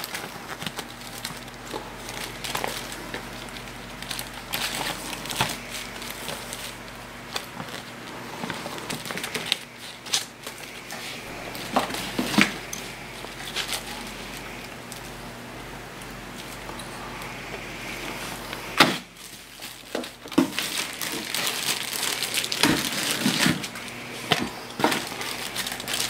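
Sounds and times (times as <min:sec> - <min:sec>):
paper rustling and crinkling: 0:00.0 - 0:15.2, 0:18.0 - 0:26.0.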